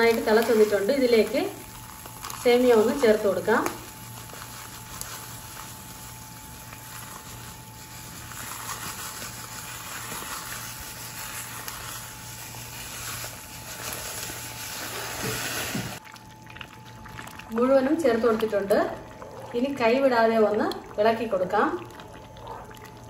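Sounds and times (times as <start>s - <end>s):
water boiling in a pot: 0.0s - 23.0s.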